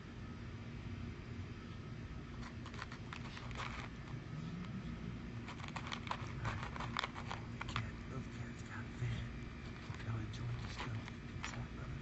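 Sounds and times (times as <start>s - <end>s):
cat crunching food: 2.2s - 12.0s.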